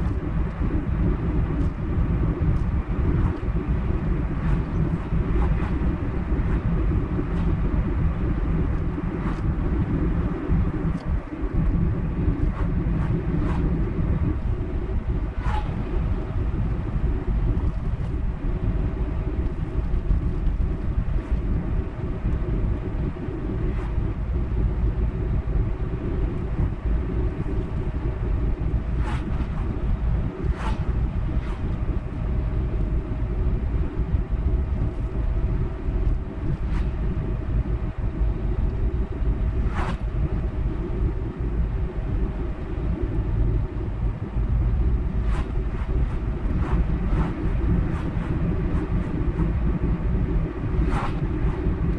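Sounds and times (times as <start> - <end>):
car road and engine rumble: 0.0 - 51.9
faint steady hum: 0.0 - 51.9.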